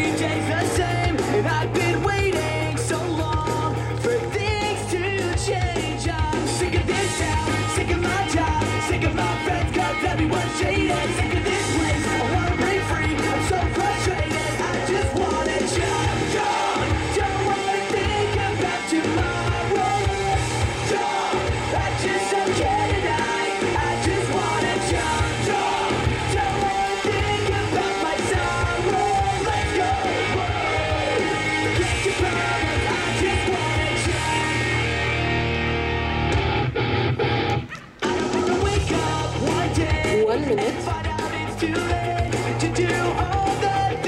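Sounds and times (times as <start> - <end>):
rock song with singer: 0.0 - 44.0.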